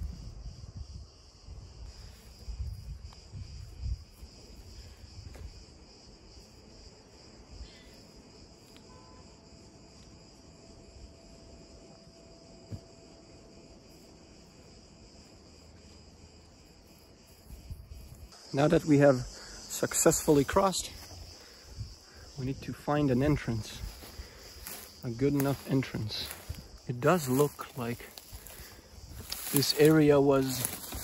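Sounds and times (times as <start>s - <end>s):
cicadas droning: 0.0s - 31.0s.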